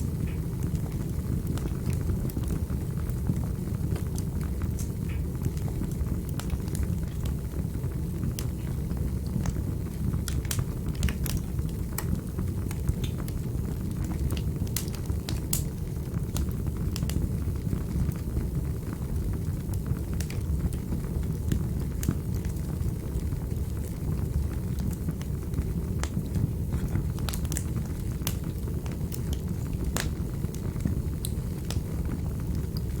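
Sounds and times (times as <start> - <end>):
fire crackles and pops: 0.0 - 33.0
fire rumbling in fireplace: 0.0 - 33.0.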